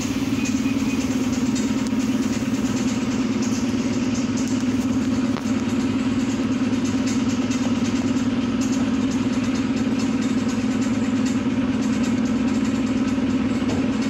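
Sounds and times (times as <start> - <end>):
constant rushing noise: 0.0 - 14.0
train engine hum: 0.0 - 14.0.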